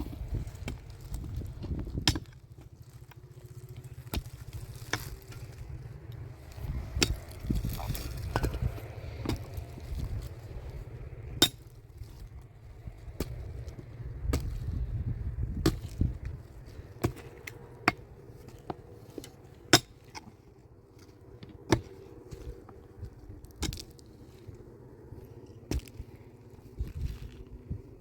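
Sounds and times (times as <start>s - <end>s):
low rumble: 0.0s - 18.8s, 20.6s - 28.0s.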